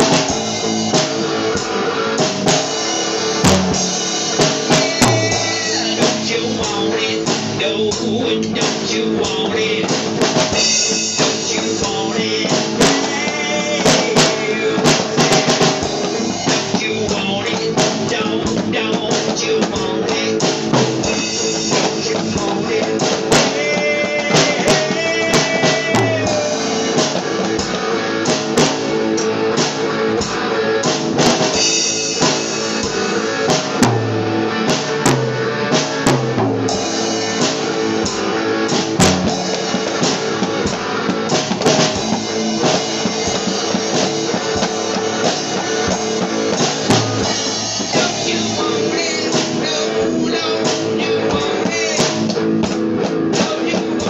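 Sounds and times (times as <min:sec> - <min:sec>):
rock music with drums and guitar: 0:00.0 - 0:54.0.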